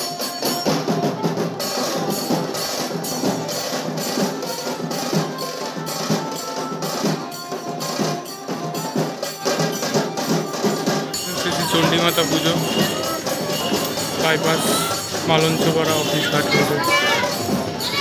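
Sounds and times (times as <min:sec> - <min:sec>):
rapid dense drumming: 0:00.5 - 0:18.0.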